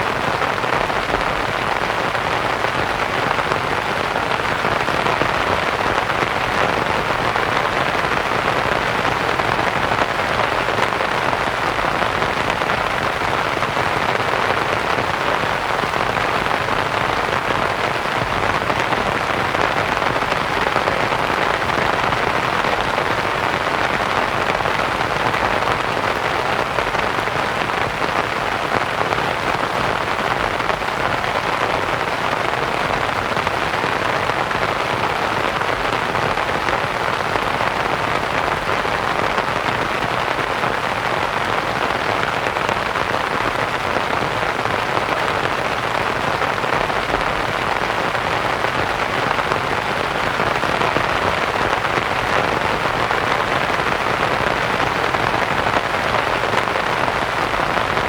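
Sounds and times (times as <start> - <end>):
rain pattering on a tent: 0.0 - 58.0.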